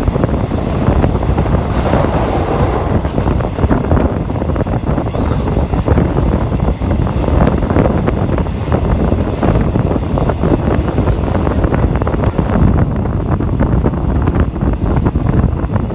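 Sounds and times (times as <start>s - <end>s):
train rumbling: 0.0s - 15.9s
train wheels clacking on rails: 0.0s - 15.9s
wind buffeting microphone: 0.0s - 15.9s.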